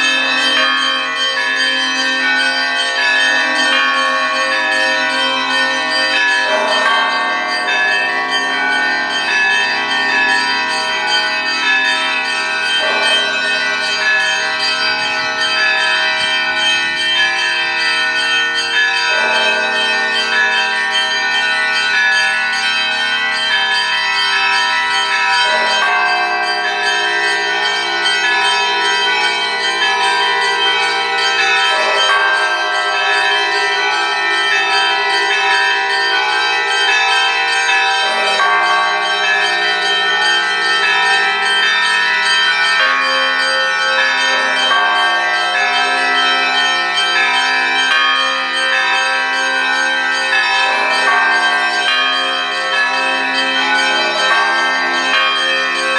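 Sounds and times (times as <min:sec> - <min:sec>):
small church bells pealing: 0:00.0 - 0:55.9.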